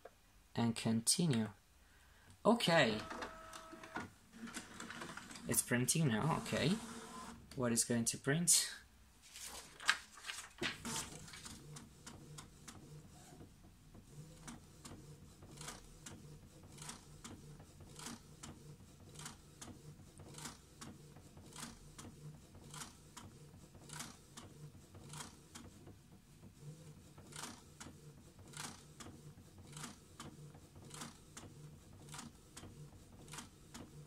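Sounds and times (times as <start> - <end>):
inkjet printer printing: 2.8 - 7.4, 10.6 - 34.0.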